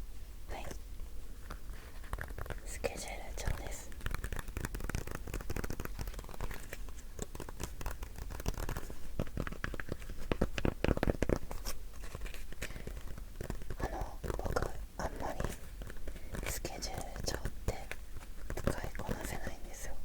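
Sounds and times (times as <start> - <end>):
object crinkling when handled: 1.3 - 19.8.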